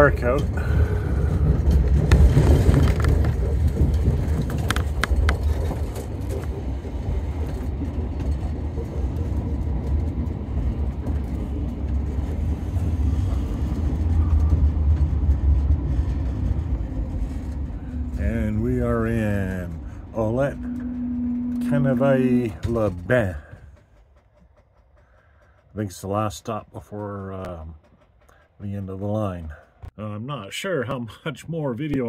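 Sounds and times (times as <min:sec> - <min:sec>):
railcar rumbling on track: 0:00.0 - 0:31.0.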